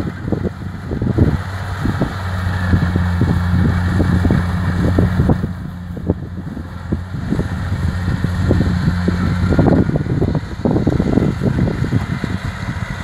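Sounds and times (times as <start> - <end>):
combine harvester engine humming: 0.0 - 13.0
low buffeting: 0.0 - 13.0.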